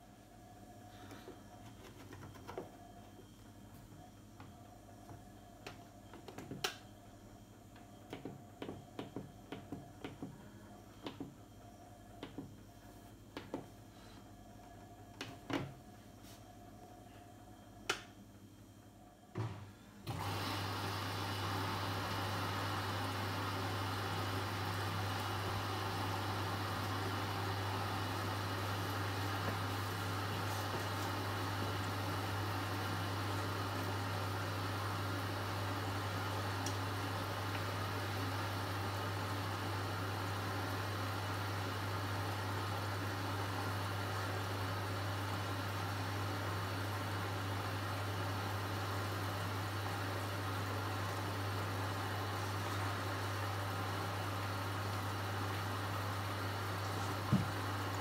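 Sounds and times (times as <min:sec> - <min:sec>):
washing machine humming: 0:00.0 - 0:58.0.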